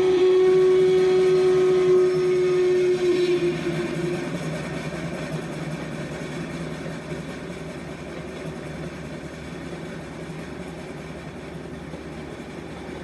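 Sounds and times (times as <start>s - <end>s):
passenger train running by: 0.0s - 13.0s.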